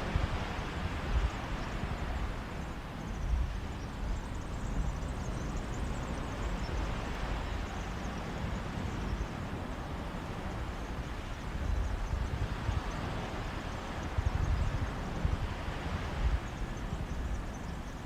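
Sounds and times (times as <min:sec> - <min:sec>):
sea waves washing on beach: 0:00.0 - 0:18.0
wind gusting on microphone: 0:00.0 - 0:18.0.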